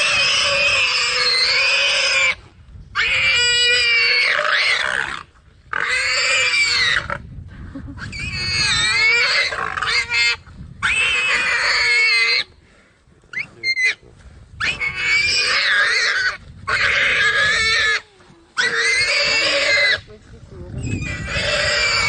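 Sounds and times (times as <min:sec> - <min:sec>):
warthog squealing: 0:00.0 - 0:02.4, 0:03.0 - 0:07.2, 0:07.9 - 0:12.5, 0:13.3 - 0:14.0, 0:14.6 - 0:20.1, 0:20.7 - 0:22.0.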